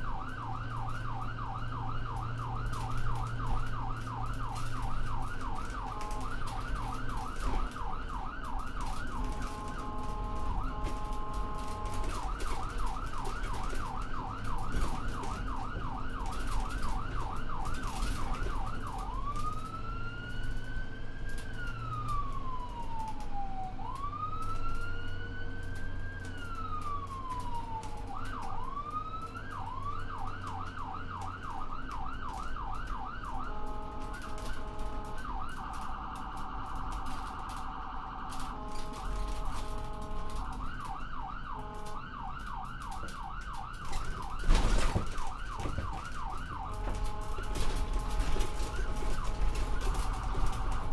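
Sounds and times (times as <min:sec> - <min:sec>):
ambulance siren: 0:00.0 - 0:50.9.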